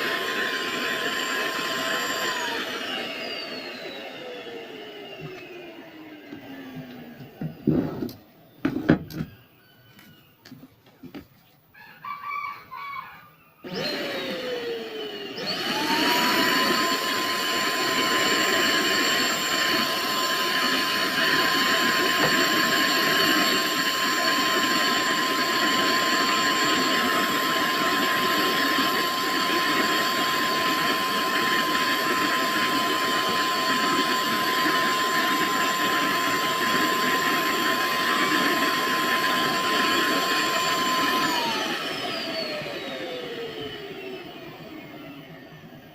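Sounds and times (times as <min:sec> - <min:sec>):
vacuum cleaner whining: 0:00.0 - 0:11.4, 0:13.4 - 0:45.9.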